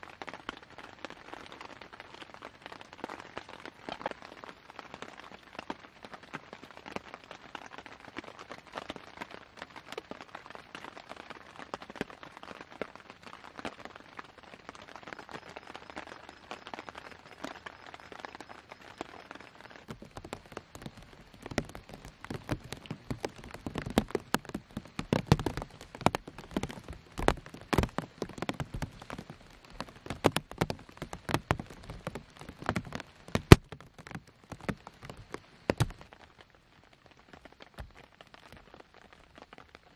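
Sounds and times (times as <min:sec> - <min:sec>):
rain falling: 0:00.0 - 0:39.9
raindrops landing with dull knocks: 0:00.0 - 0:39.9.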